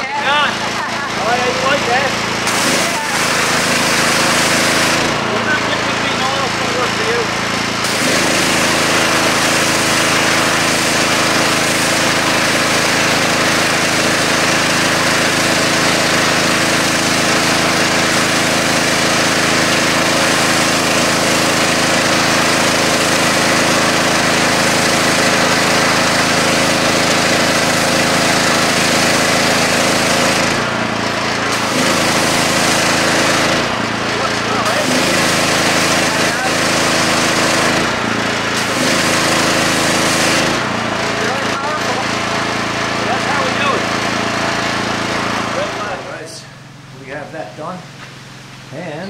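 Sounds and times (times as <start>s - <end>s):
water jet hissing on asphalt: 0.0s - 46.7s
pressure washer engine running: 0.0s - 49.0s.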